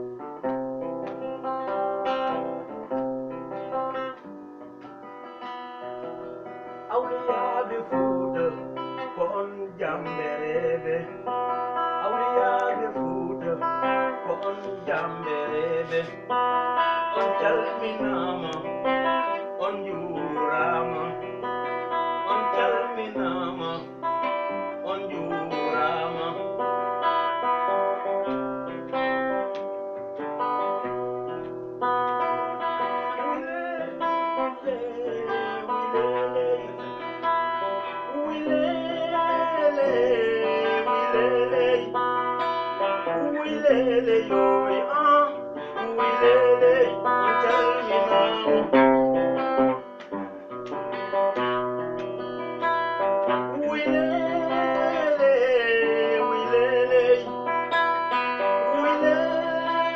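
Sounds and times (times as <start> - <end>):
acoustic guitar picking: 0.0 - 59.9
person singing: 5.0 - 59.9.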